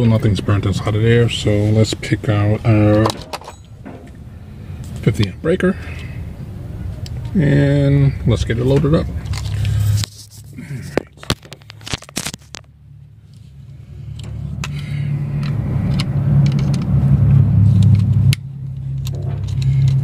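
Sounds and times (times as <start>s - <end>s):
steady low drone: 0.1s - 10.9s, 12.7s - 20.0s.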